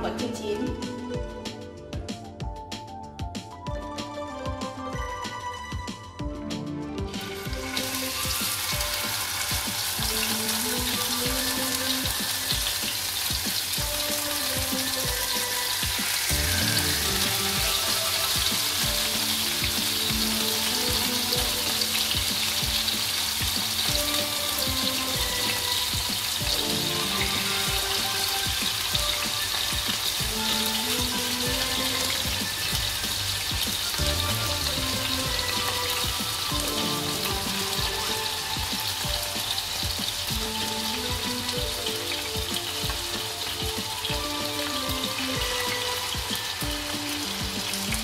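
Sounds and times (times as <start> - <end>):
soft background music: 0.0 - 48.0
meat sizzling in oil: 7.1 - 48.0.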